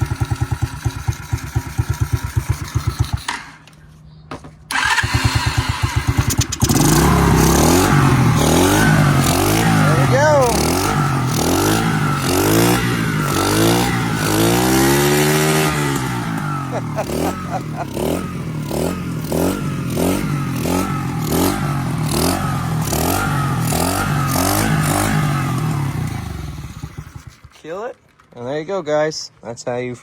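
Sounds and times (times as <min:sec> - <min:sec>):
dirt bike engine revving: 0:00.0 - 0:03.3, 0:04.7 - 0:27.7.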